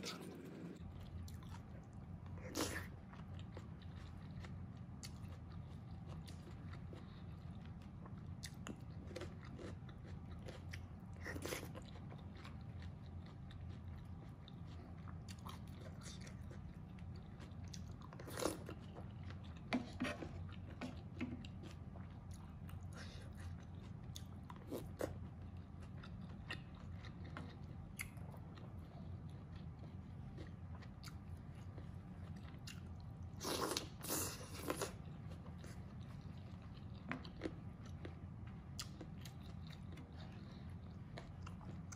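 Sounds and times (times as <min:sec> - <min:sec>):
chewing and mouth sounds: 0:00.0 - 0:41.9.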